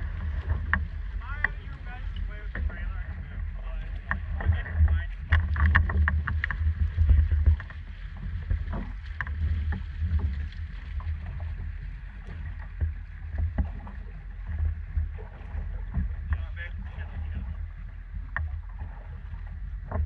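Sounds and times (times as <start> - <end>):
boat engine idling: 0.0 - 20.0.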